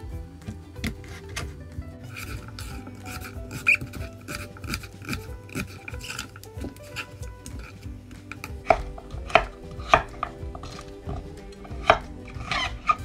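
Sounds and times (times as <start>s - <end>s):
knife cutting squash: 0.4s - 13.0s.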